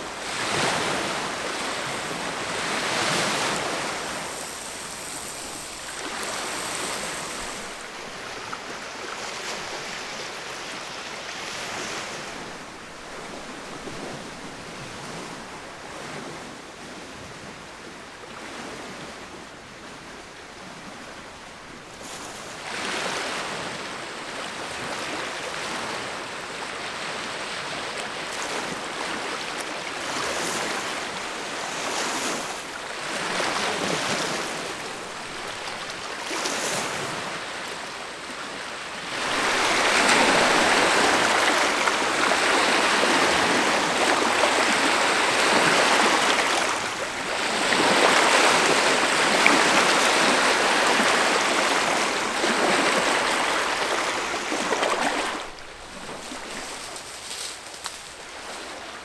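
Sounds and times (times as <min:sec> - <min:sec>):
waves lapping on pebbly shore: 0:00.0 - 0:16.5, 0:21.8 - 0:59.0
wind gusts: 0:00.0 - 0:59.0.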